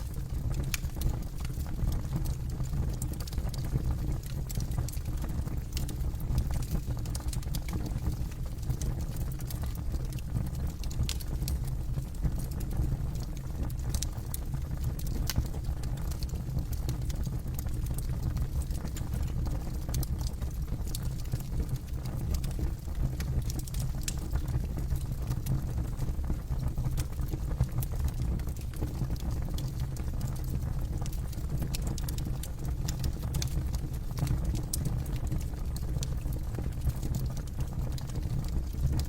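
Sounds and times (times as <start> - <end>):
bonfire crackling and popping: 0.0 - 39.0.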